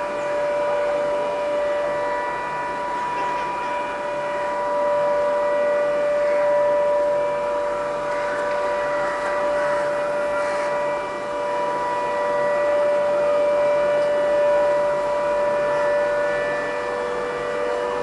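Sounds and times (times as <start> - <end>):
outdoor noise: 0.0 - 18.0
warning siren steady tone: 0.0 - 18.0.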